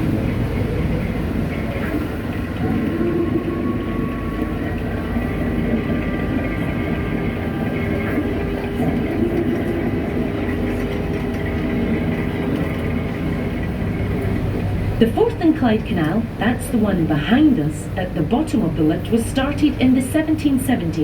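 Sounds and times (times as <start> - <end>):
boat motor droning: 0.0 - 21.0
faint steady tones: 0.0 - 21.0.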